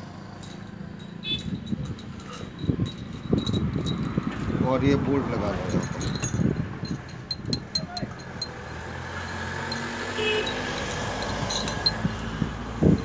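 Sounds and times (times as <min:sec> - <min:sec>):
low engine hum: 0:00.0 - 0:13.0
metal bolts clinking: 0:00.4 - 0:04.4, 0:05.6 - 0:12.3.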